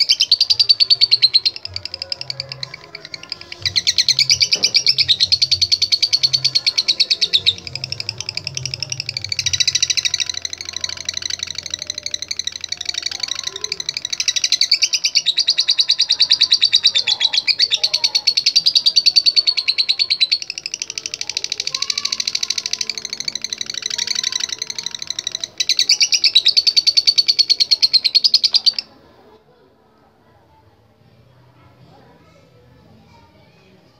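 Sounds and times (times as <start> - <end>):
lovebird chirping rapidly: 0.0 - 28.9.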